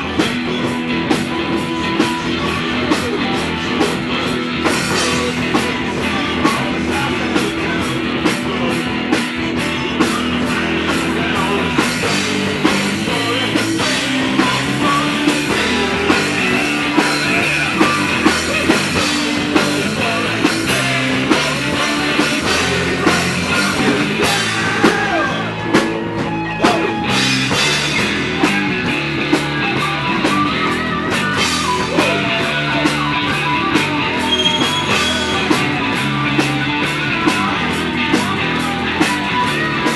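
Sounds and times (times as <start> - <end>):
bass guitar: 0.0 - 39.9
distorted electric guitars: 0.0 - 39.9
person singing: 0.0 - 39.9.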